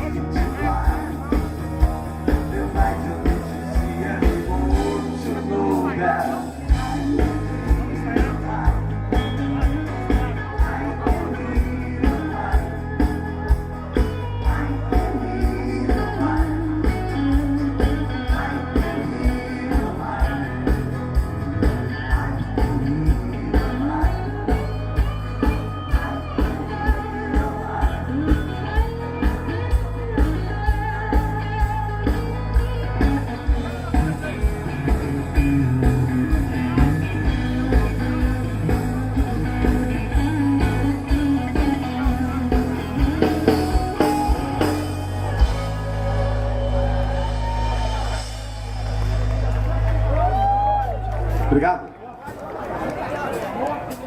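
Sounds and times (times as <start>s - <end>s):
rock song: 0.0s - 51.6s.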